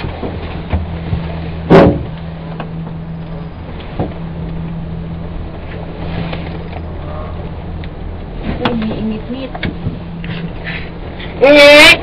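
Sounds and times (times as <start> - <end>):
cable car hum and rushing: 0.0 - 12.0.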